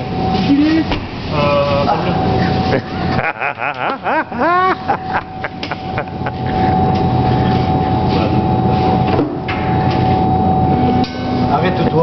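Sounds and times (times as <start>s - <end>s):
machine motor whine and hum: 0.0s - 12.0s.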